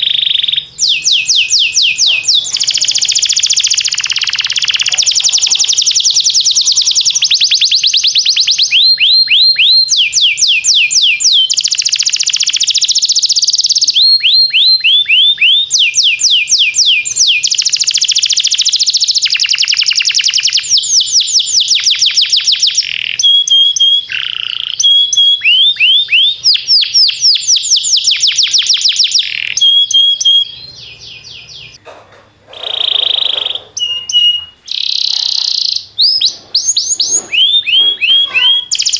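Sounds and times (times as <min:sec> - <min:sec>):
canary singing trills: 0:00.0 - 0:31.8, 0:32.4 - 0:38.9.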